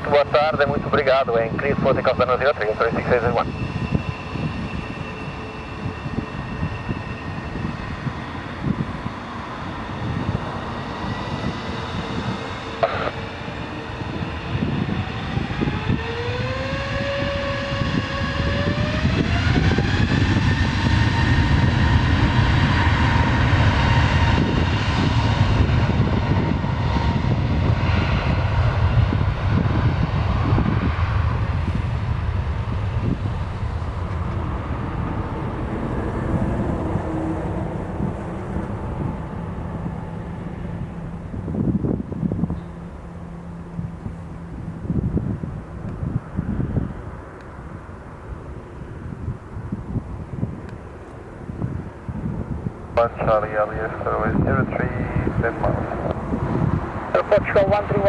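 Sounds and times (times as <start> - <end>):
jet engines spooling up: 0.0 - 58.0.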